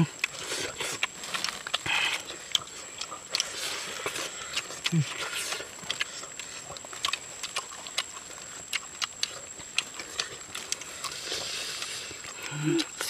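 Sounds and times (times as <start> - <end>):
chewing and smacking: 0.0 - 13.0.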